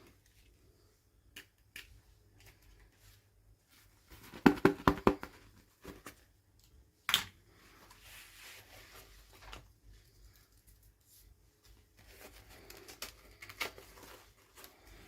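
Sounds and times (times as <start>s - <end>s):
soft rustling of packaging: 0.0s - 15.0s.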